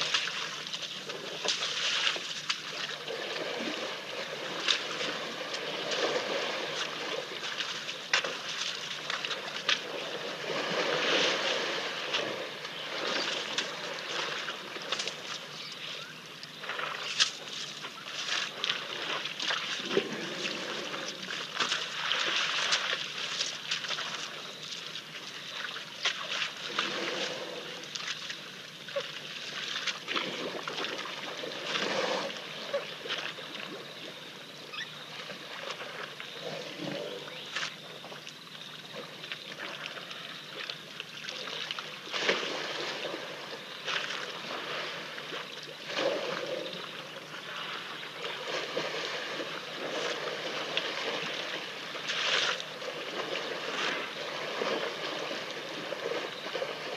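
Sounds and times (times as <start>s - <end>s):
water splashing and trickling: 0.0s - 56.9s.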